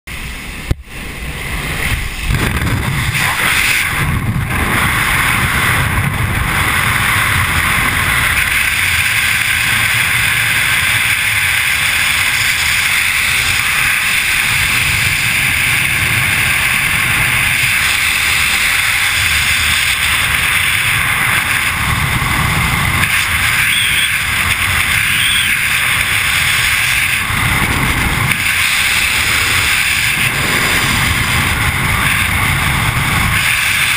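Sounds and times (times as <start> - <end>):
freefall wind rushing over microphone: 0.1 - 33.9.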